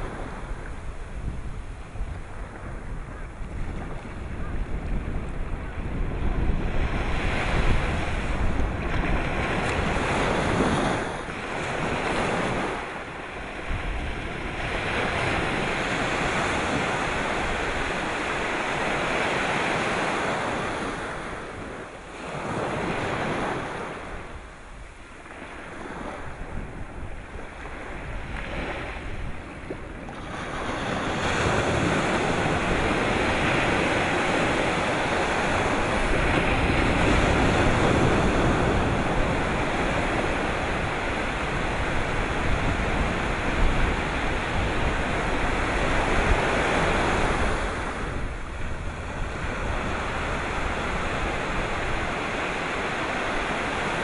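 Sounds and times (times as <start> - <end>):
sea waves breaking: 0.0 - 54.0
wind buffeting microphone: 0.0 - 54.0.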